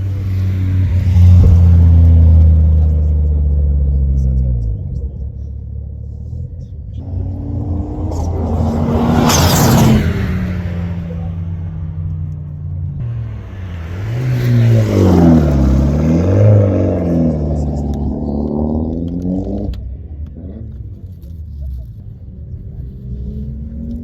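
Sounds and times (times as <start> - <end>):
engine crackles: 0.0 - 24.0
race car engine revving: 0.0 - 24.0.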